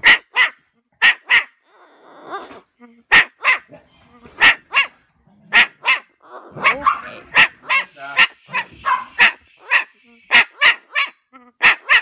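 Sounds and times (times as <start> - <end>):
dog barking: 0.0 - 1.6, 3.1 - 12.0
yelping calls: 0.0 - 12.0.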